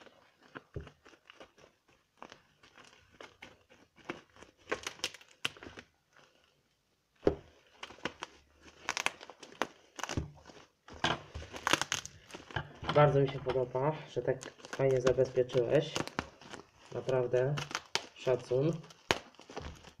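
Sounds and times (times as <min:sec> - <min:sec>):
scissors cutting bubble wrap: 0:00.0 - 0:06.3, 0:07.2 - 0:20.0.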